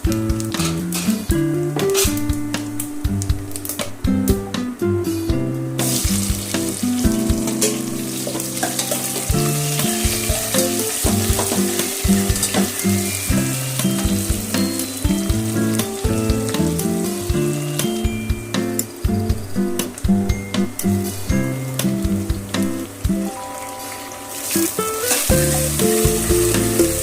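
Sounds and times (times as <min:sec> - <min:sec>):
background music: 0:00.0 - 0:27.0
food frying and sizzling: 0:00.0 - 0:27.0.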